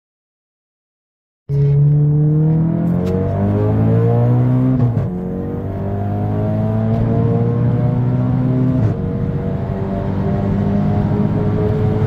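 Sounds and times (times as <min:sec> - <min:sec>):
car engine accelerating: 0:01.5 - 0:12.0.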